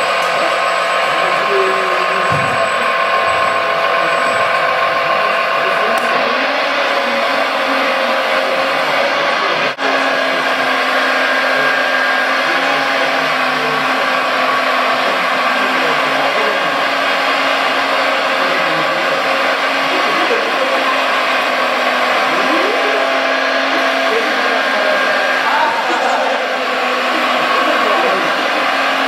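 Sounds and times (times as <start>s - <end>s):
model excavator motor drone: 0.0s - 29.0s.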